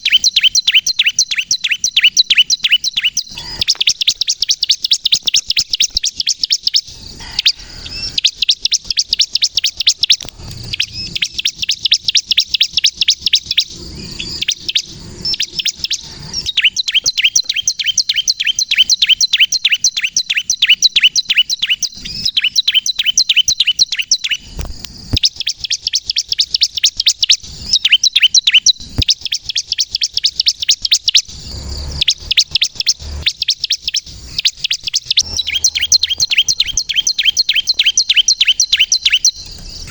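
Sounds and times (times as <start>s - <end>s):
bird singing high rapid chirps: 0.0s - 39.9s.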